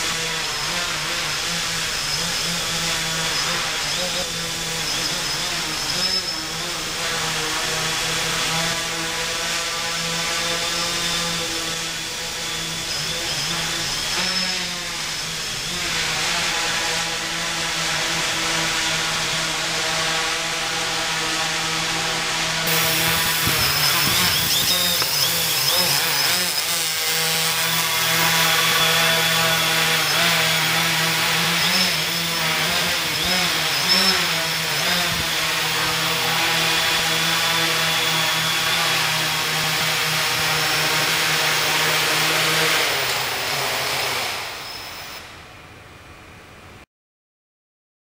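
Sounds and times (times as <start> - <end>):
drone propellers buzzing: 0.0 - 45.2.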